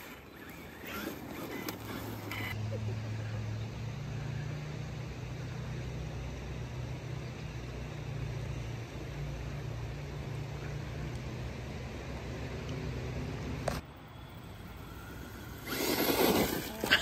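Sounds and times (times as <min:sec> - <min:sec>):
electric motor and gears humming: 0:00.0 - 0:17.0.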